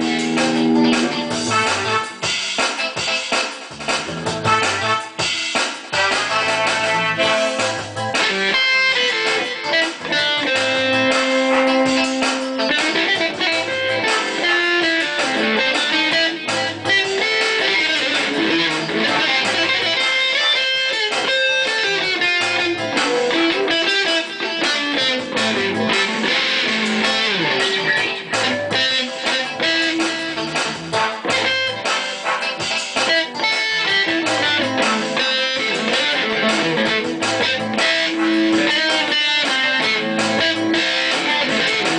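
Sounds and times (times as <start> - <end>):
electric guitar melody: 0.0 - 41.9
low beat: 0.0 - 41.9.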